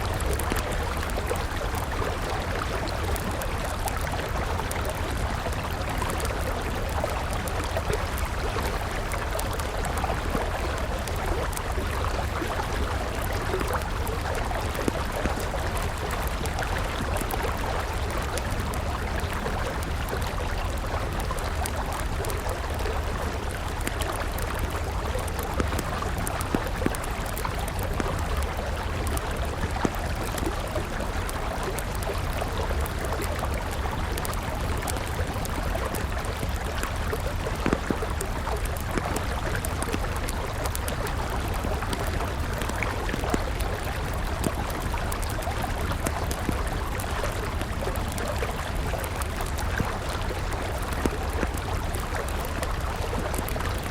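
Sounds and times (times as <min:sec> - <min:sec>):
campfire crackling and popping: 0:00.0 - 0:53.9
river flowing: 0:00.0 - 0:53.9.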